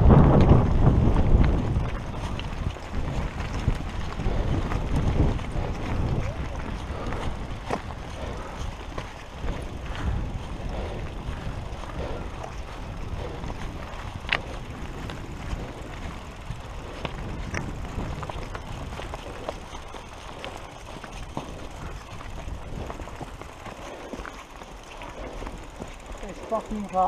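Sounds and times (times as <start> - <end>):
bikes pushed over stony ground: 0.0 - 27.0
wind buffeting microphone: 0.0 - 27.0
footsteps on stony ground: 0.1 - 27.0.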